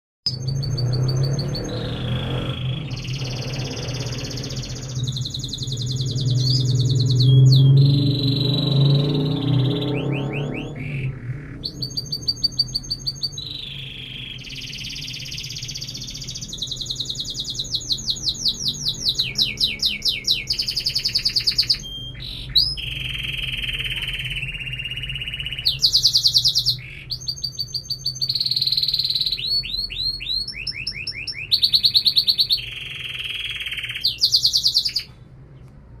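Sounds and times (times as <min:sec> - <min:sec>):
canary singing trills: 0:00.2 - 0:35.7.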